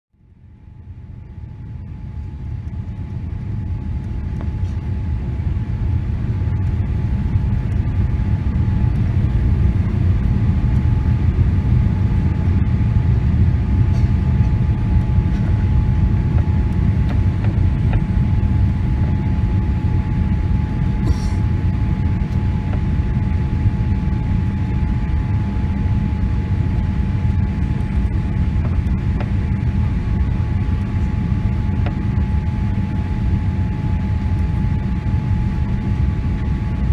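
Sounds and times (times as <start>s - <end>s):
aircraft engine and airflow rumble: 0.2s - 36.9s.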